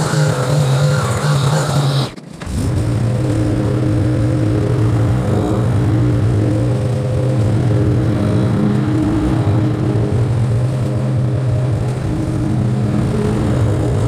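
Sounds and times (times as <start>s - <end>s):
small gasoline engine droning: 0.0s - 14.0s.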